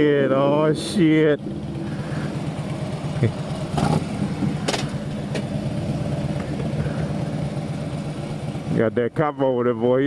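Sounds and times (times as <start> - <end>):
car engine idling: 0.0 - 10.0
motorcycle engine idling: 0.0 - 10.0.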